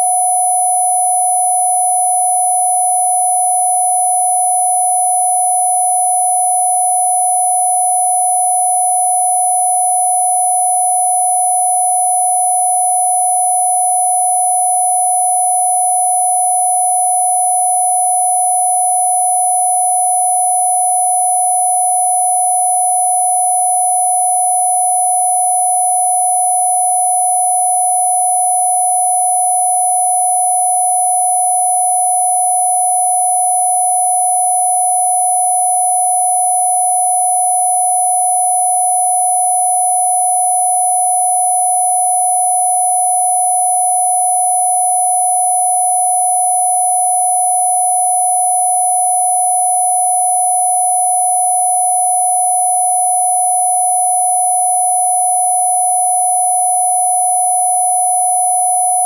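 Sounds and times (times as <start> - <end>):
electronic sine tone: 0.0 - 59.0.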